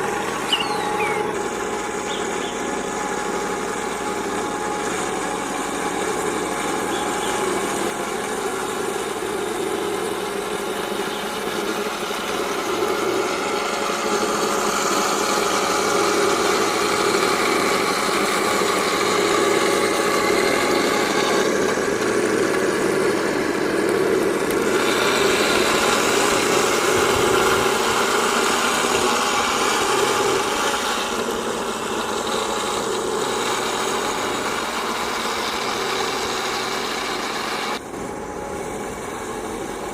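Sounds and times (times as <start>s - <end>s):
toy tank engine rumble: 0.0s - 39.9s.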